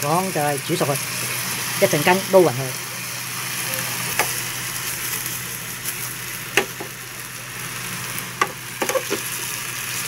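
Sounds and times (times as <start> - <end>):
mushrooms sizzling in a frying pan: 0.0 - 10.0.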